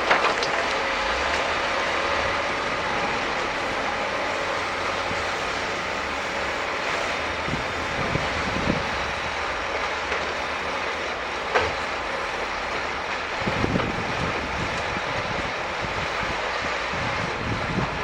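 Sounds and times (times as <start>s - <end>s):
heavy mechanical noise: 0.0s - 18.0s
truck engine hum: 0.0s - 18.0s.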